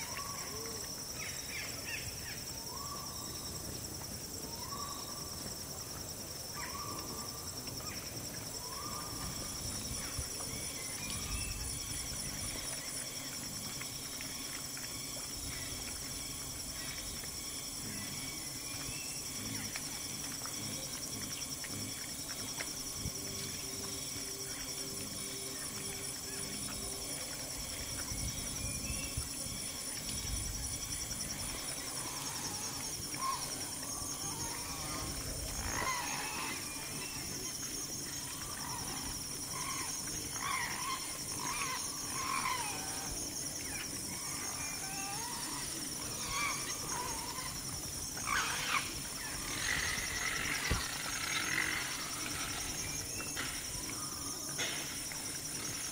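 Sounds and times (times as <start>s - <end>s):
high insect chorus: 0.0s - 55.9s.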